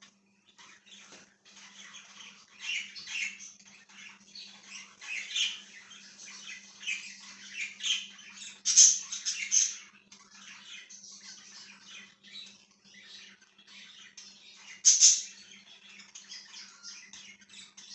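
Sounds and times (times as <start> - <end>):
budgerigars chirping: 0.4 - 17.9.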